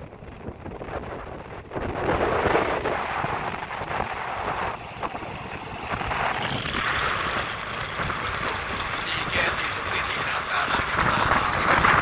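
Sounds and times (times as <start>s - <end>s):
train coach rumbling on track: 0.0s - 12.0s
wind buffeting microphone: 0.0s - 12.0s.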